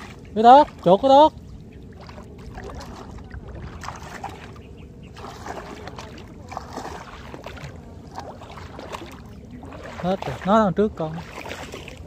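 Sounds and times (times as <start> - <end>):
person wading through shallow water: 0.0 - 12.0.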